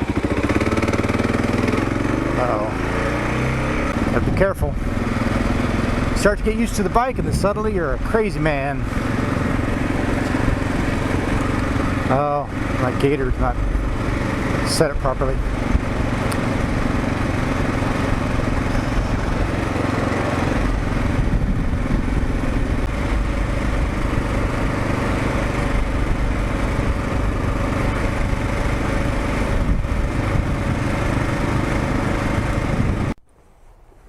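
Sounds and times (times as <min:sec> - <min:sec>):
motorcycle engine running: 0:00.0 - 0:33.2.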